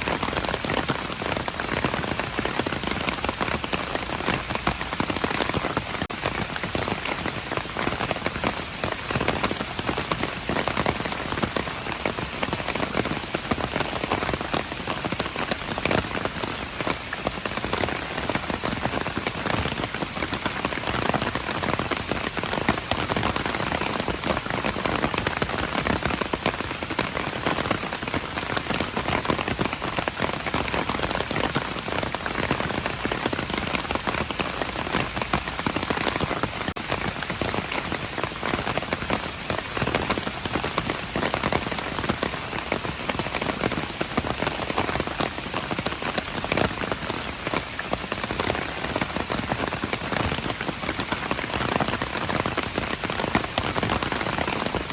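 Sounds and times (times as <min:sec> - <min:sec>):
rain on hard surfaces: 0:00.0 - 0:54.9.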